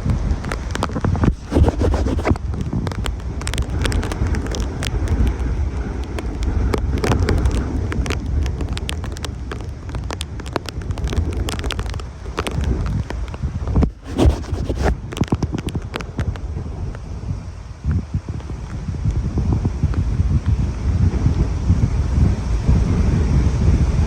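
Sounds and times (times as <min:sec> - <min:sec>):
strong wind gusting on microphone: 0:00.0 - 0:24.0.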